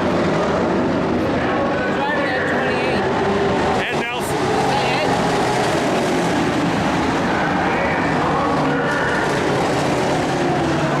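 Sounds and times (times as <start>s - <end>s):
race car engines passing: 0.0s - 11.0s.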